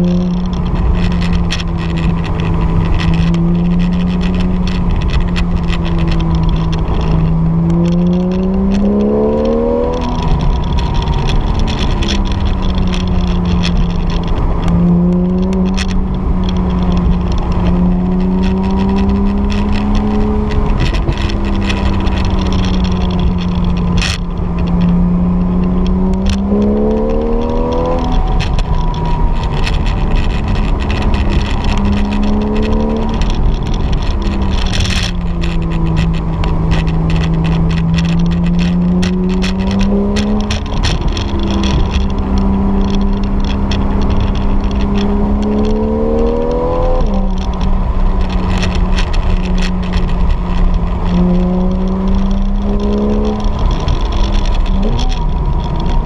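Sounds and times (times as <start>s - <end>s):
car engine revving: 0.0s - 56.0s
road noise: 0.0s - 56.0s.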